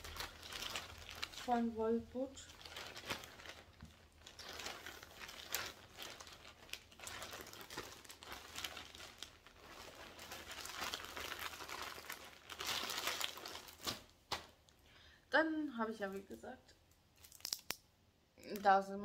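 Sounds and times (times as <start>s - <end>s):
plastic bag crinkling: 0.0s - 14.7s, 17.2s - 17.8s.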